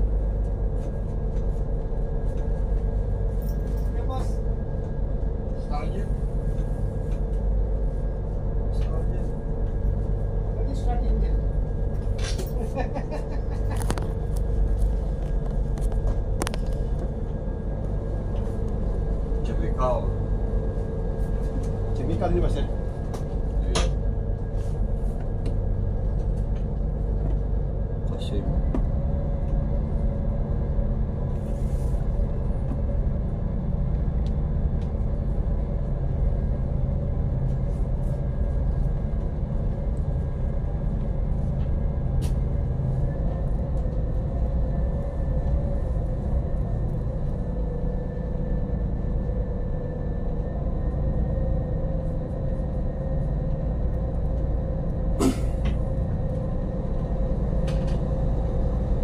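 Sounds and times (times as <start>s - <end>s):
boat engine rumbling: 0.0s - 59.0s.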